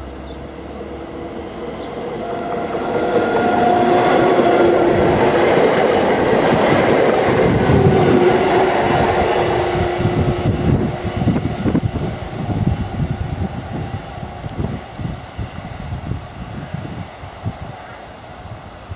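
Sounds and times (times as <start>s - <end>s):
train passing rumble and whine: 0.0s - 18.9s.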